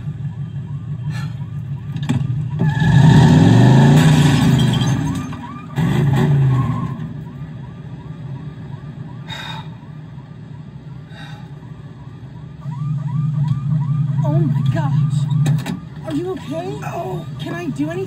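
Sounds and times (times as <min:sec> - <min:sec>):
vehicle siren wailing: 0:00.0 - 0:18.0.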